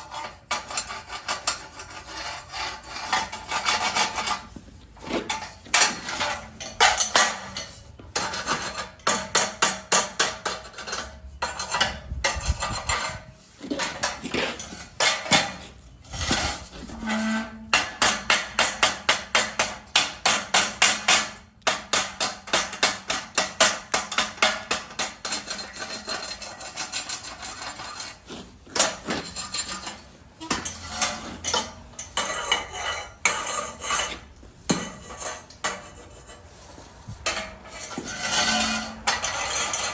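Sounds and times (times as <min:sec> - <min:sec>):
hand tools scraping metal: 0:00.0 - 0:39.9.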